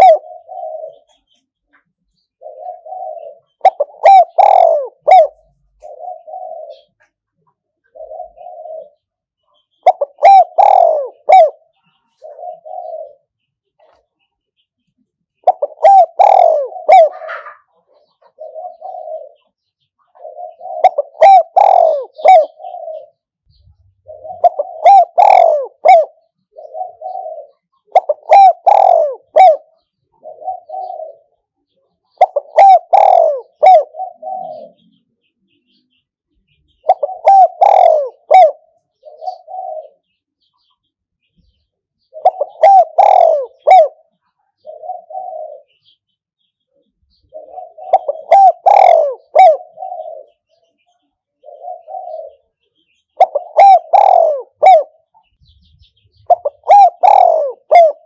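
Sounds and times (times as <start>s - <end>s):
dove cooing: 0.0s - 14.1s, 15.3s - 58.0s.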